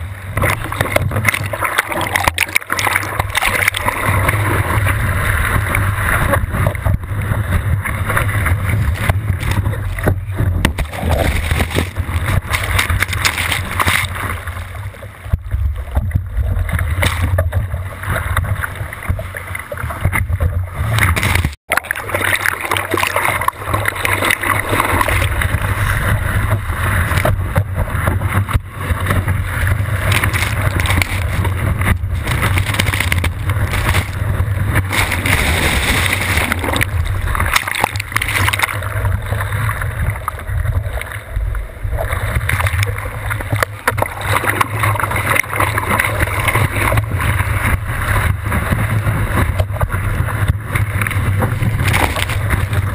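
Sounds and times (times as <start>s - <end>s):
wind buffeting camera: 0.0s - 21.6s, 23.7s - 52.9s
breaking surf and whitewater: 0.0s - 52.9s
water splashing over lens: 0.0s - 52.9s.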